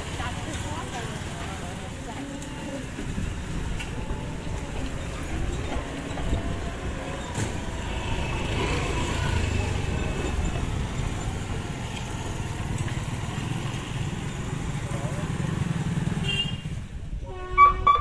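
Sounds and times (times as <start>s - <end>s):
motorcycles and scooters passing: 0.0s - 17.1s
low rumble of traffic: 0.0s - 18.0s.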